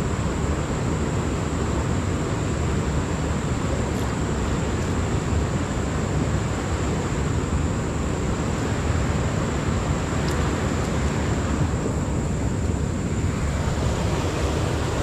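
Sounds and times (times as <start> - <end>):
fast-flowing river rushing: 0.0 - 15.0.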